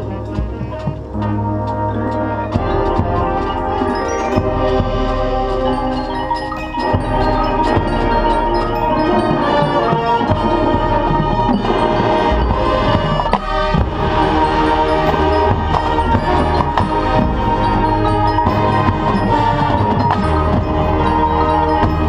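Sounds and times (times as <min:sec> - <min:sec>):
brass chords: 0:00.0 - 0:22.0
marimba and glockenspiel: 0:00.2 - 0:22.0.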